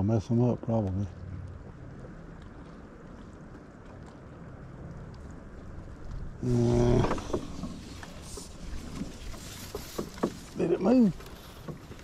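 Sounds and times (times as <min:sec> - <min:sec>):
light wind: 0:00.0 - 0:12.0
rustle: 0:00.0 - 0:12.0
water lapping around canoe: 0:00.0 - 0:12.0.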